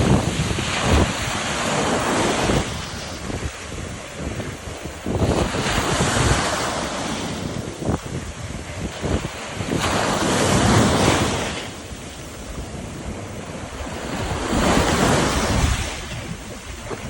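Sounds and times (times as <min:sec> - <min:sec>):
sea waves crashing on a wall: 0:00.0 - 0:17.0.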